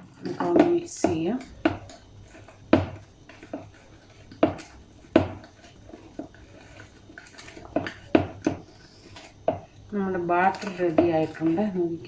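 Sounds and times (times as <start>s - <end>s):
utensil knocking against bowl: 0.0s - 11.8s
utensil stirring batter: 0.0s - 12.0s.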